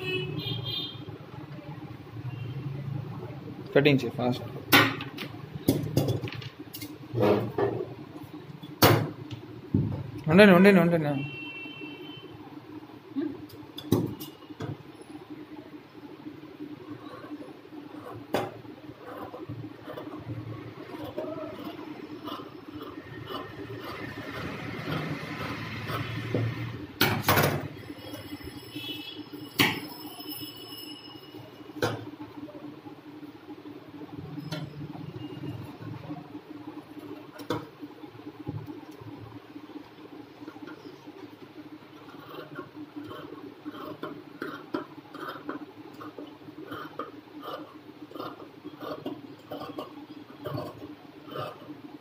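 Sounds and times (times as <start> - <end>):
faint hum: 0.0 - 52.0.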